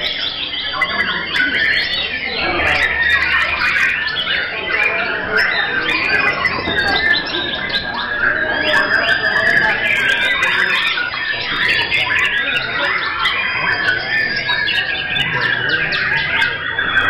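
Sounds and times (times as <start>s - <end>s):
many birds singing: 0.0s - 17.0s.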